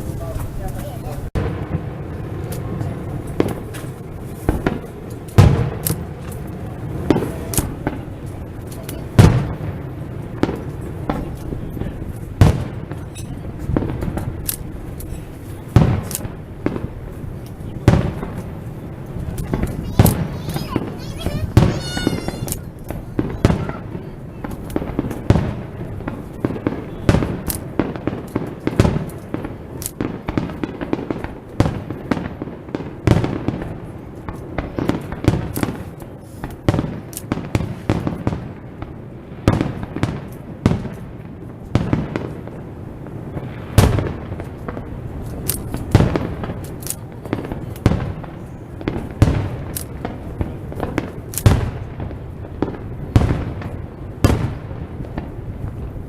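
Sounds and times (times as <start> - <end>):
firework shells bursting: 1.4 - 56.0.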